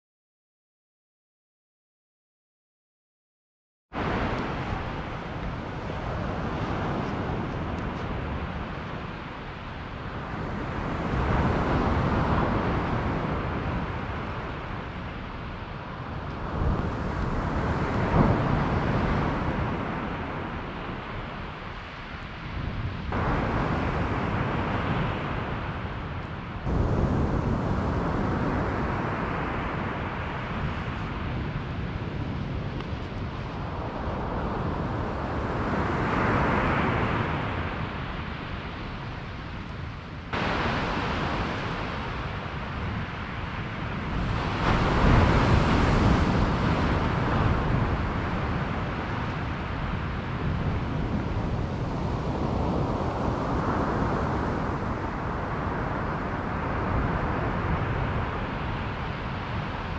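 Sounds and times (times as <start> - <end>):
wind rumbling on microphone: 3.9 - 59.9
waves breaking on a beach: 4.0 - 59.9.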